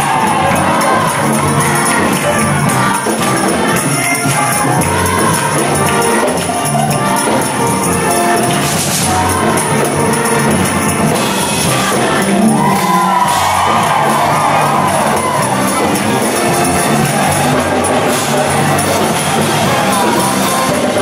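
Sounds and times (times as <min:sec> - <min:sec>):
choir singing gospel song: 0:00.0 - 0:21.0
jingling tambourine percussion: 0:00.0 - 0:21.0.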